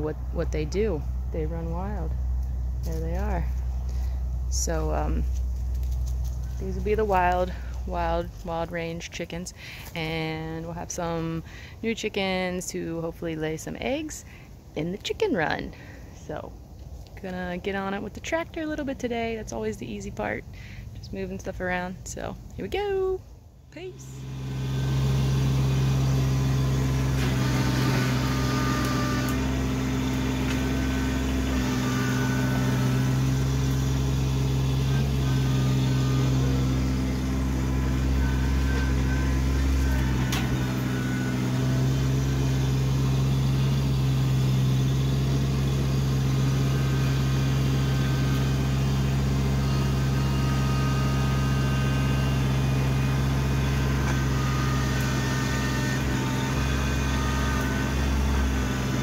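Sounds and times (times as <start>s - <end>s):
tractor diesel engine running: 0.0s - 23.2s, 23.8s - 59.0s.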